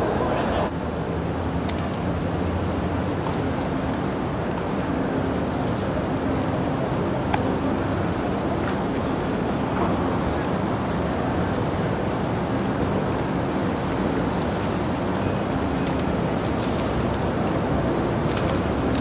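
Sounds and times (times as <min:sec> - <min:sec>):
traffic hum: 0:00.0 - 0:19.0
pigeon wings fluttering: 0:01.4 - 0:19.0.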